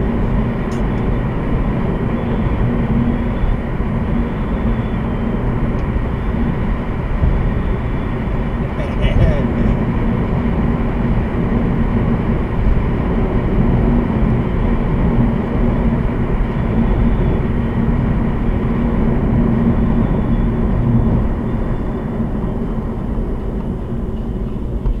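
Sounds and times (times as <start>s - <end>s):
car interior road noise: 0.0s - 25.0s.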